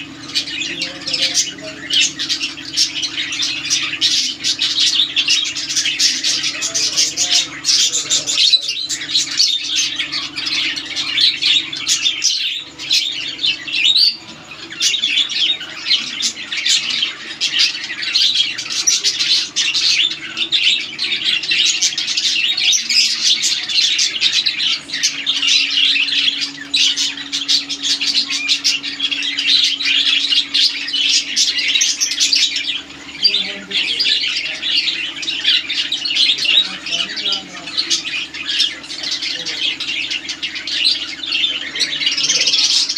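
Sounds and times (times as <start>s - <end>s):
lovebirds chirping and squawking: 0.0s - 42.9s
steady low hum: 0.0s - 42.9s.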